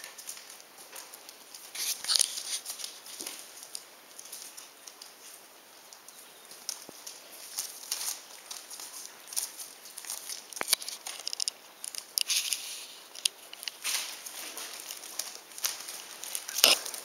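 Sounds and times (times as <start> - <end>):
newspaper crinkling and rustling: 0.0 - 17.0.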